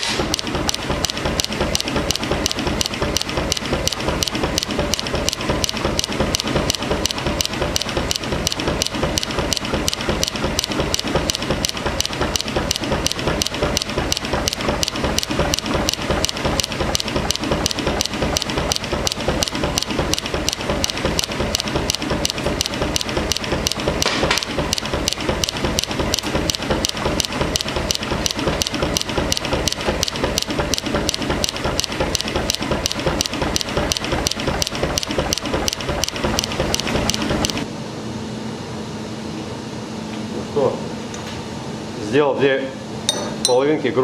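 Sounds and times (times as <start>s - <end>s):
power hammer rhythmic knocking: 0.0s - 37.7s.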